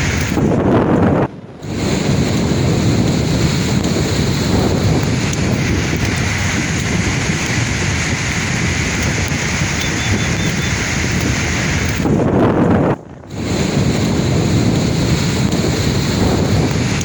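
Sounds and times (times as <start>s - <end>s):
sea waves breaking: 0.0s - 17.0s
wind noise on microphone: 0.0s - 17.0s.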